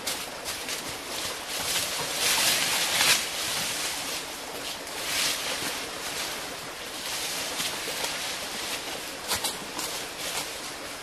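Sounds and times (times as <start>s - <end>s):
dry leaves rustling and crunching: 0.0s - 11.0s.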